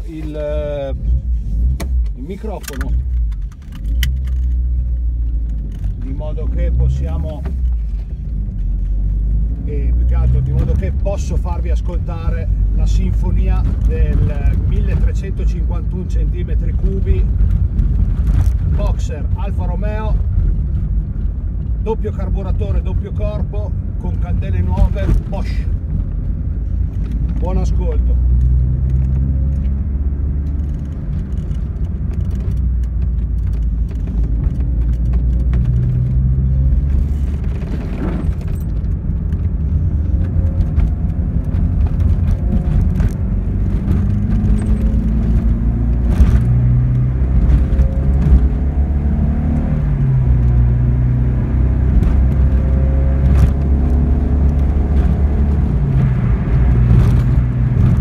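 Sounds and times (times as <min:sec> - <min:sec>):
car engine revving while driving: 0:00.2 - 0:58.0.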